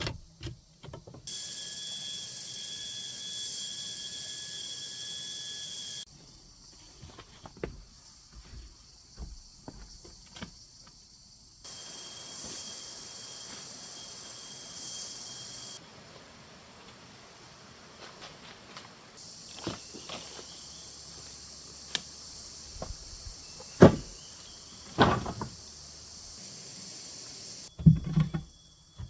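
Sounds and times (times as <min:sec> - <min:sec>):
insect drone: 0:00.0 - 0:29.0.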